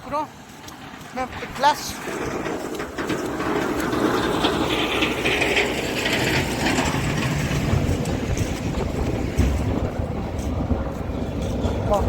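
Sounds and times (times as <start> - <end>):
snowplow blade scraping ice: 0.8 - 12.0.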